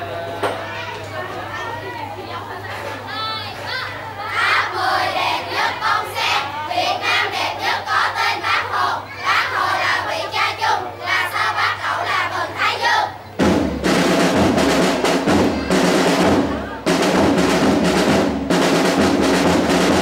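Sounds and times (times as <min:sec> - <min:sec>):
drums: 0:00.0 - 0:20.0
children chanting together: 0:03.2 - 0:20.0.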